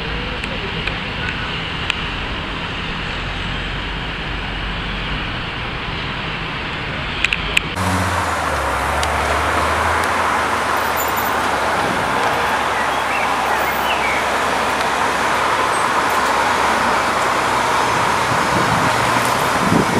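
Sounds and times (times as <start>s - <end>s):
car engine humming: 0.0s - 19.9s
cars passing: 0.0s - 19.9s
road noise: 0.0s - 19.9s.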